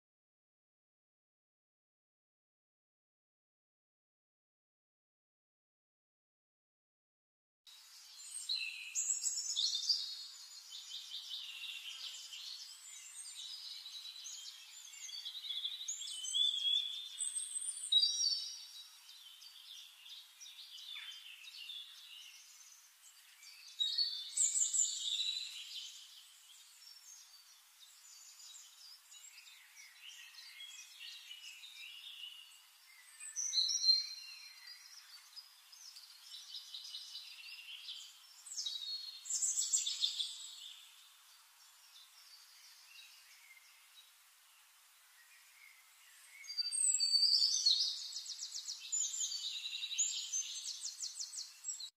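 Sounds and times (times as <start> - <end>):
songbirds singing: 7.7 - 51.9.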